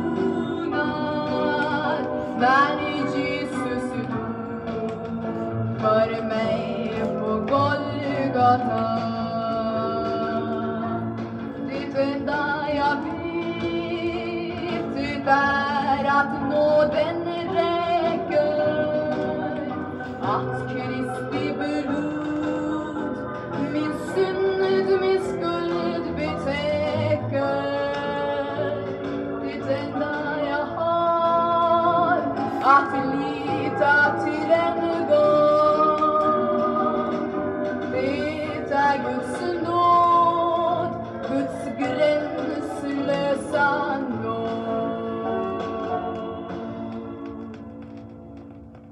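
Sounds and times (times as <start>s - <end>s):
gospel singing with accompaniment: 0.0s - 48.5s.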